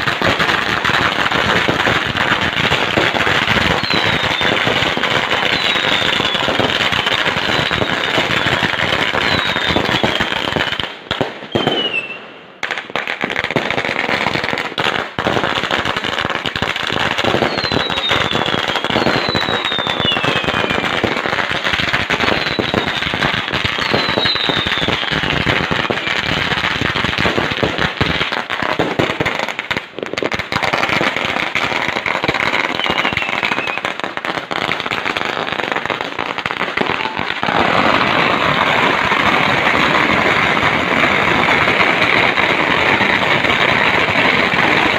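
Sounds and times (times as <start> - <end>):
fireworks falling whistles: 0.0 - 29.7, 30.5 - 44.9
fireworks crackling: 0.0 - 44.9.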